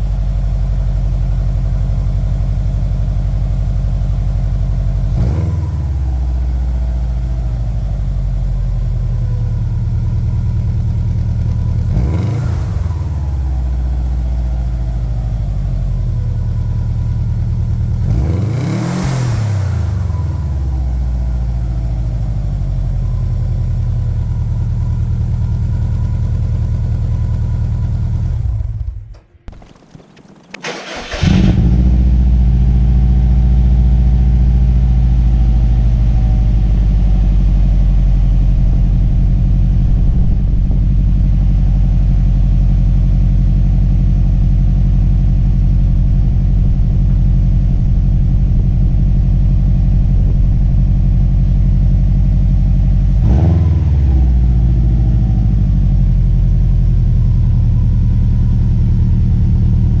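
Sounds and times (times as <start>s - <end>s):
engine throttle blip: 0.0s - 58.6s
car engine idling: 0.0s - 60.0s.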